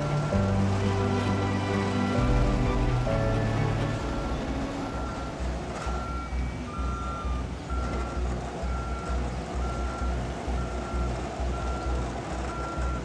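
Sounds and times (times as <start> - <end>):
truck backup alarm beeping: 0.0 - 13.0
truck engine rumble: 0.0 - 13.0.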